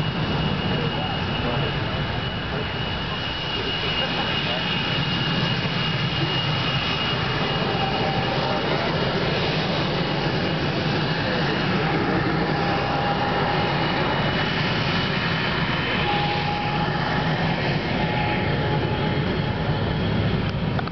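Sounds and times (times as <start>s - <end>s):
jet engine rumble and whine: 0.0s - 20.9s.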